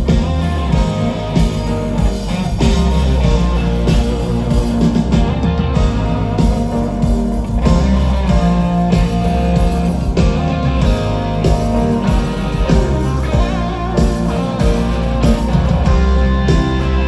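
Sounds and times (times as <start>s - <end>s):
electric guitar: 0.0s - 17.0s
live rock band playing: 0.0s - 17.0s.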